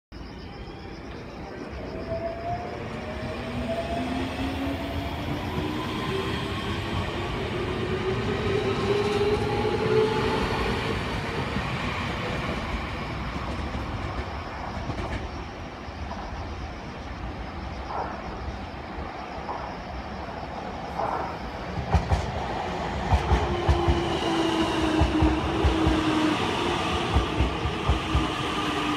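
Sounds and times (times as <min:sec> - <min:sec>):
train wheels on track: 0:01.1 - 0:28.9.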